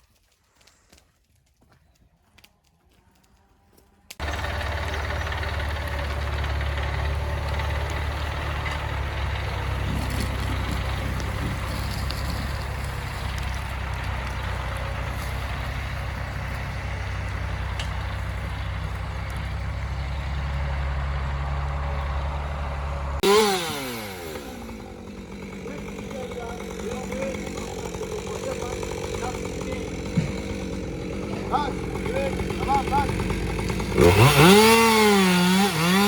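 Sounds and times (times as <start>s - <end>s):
heavy vehicle engine rumbling: 4.2s - 36.0s.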